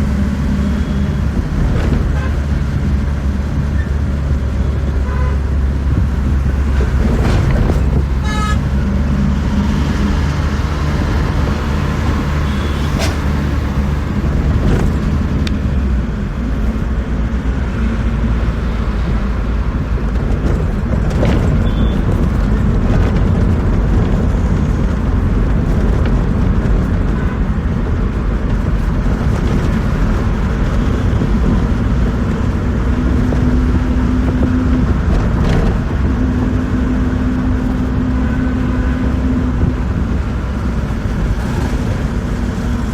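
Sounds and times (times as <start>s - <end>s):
bus engine and road rumble: 0.0s - 42.9s
engine hum: 0.0s - 42.9s.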